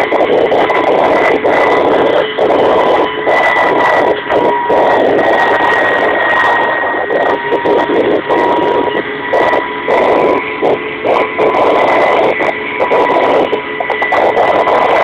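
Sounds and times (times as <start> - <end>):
helicopter engines and rotors roaring: 0.0 - 15.0
high whine: 0.0 - 15.0.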